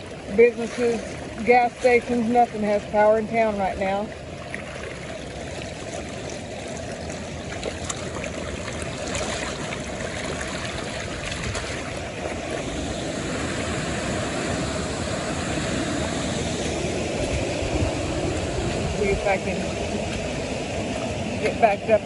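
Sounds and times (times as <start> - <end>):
floodwater rushing in a creek: 0.0 - 22.0.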